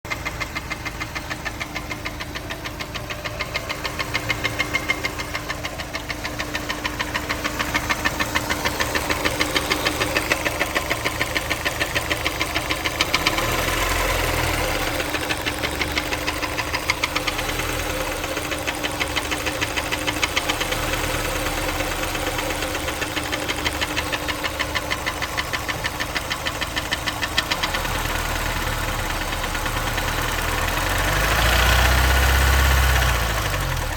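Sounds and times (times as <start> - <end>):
engine running with rhythmic knock: 0.1 - 33.9.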